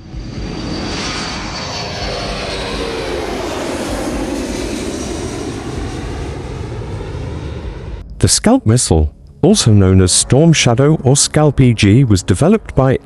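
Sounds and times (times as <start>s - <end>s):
faint high jet whine: 0.0s - 13.0s
jet engine roar: 0.0s - 13.0s.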